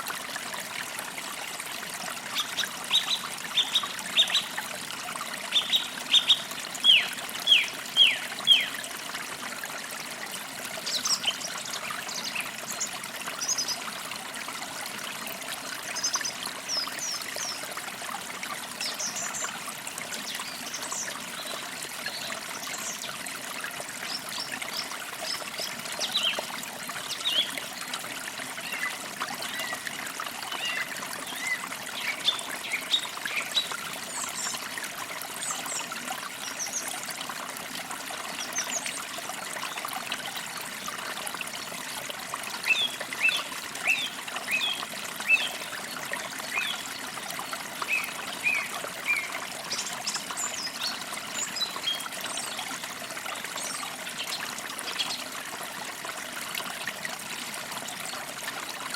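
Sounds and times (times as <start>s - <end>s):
creek trickling: 0.0s - 58.9s.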